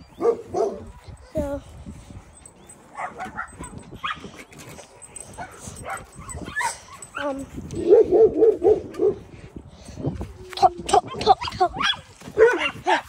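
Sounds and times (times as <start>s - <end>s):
dogs barking and yipping: 0.0s - 1.3s, 2.2s - 9.4s, 10.9s - 13.0s.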